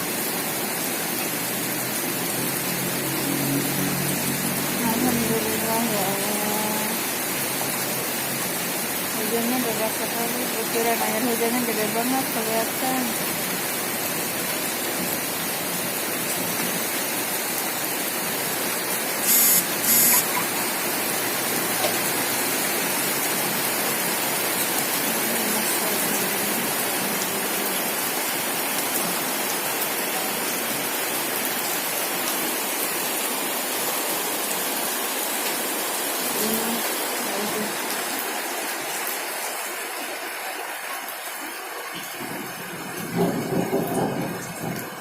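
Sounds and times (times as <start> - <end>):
heavy rain pouring: 0.0 - 45.0.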